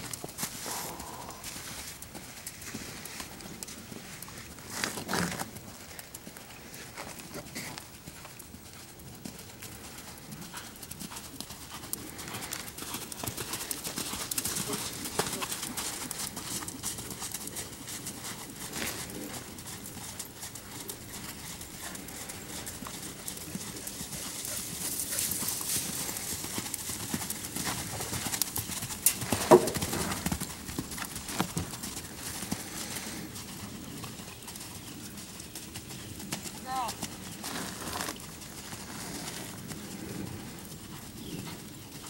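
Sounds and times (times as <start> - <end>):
horse hoofbeats on dirt: 0.0 - 42.0.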